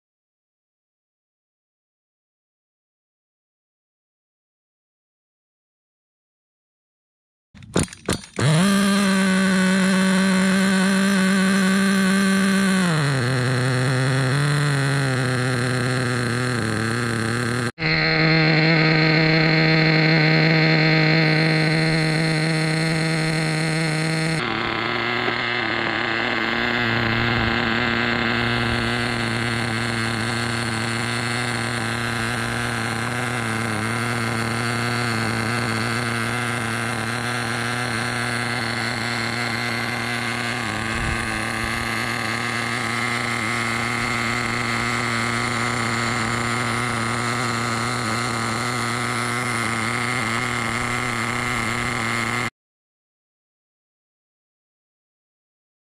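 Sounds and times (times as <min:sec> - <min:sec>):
small nitro engine running: 0:07.6 - 0:52.5.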